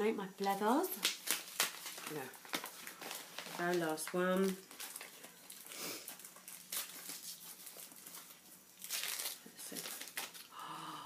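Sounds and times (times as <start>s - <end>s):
chocolate wrapper tearing and crinkling: 1.0s - 10.6s.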